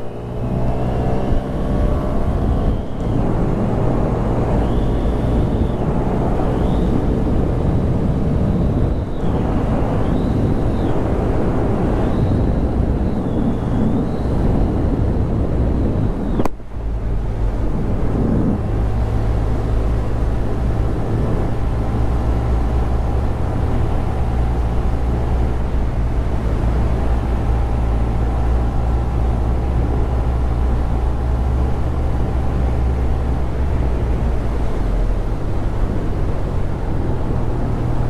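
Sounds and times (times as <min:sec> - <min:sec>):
road and wind noise: 0:00.0 - 0:38.0.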